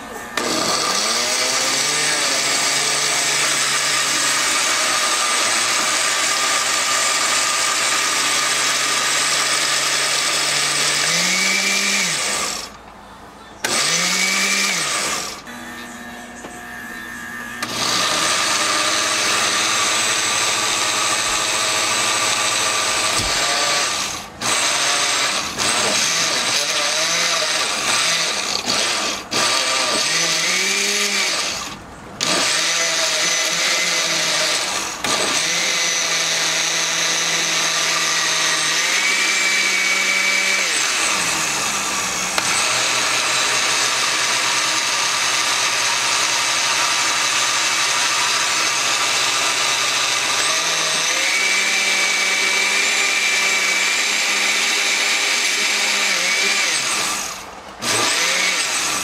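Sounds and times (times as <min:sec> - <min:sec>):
blender motor running: 0:00.0 - 0:12.8, 0:13.6 - 0:59.0.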